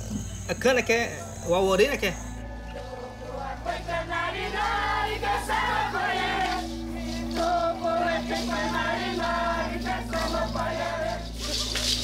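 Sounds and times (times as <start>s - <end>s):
steady low drone: 0.0s - 12.0s
villagers chanting: 2.2s - 12.0s.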